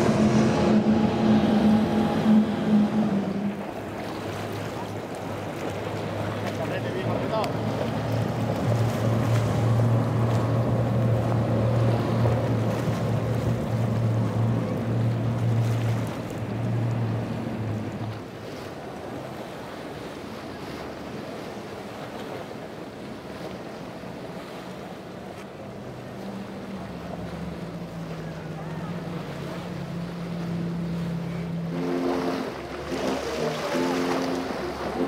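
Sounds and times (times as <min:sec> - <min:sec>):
outboard motors droning: 0:00.0 - 0:35.0
surf: 0:00.0 - 0:35.0
water rushing along hull: 0:00.0 - 0:35.0.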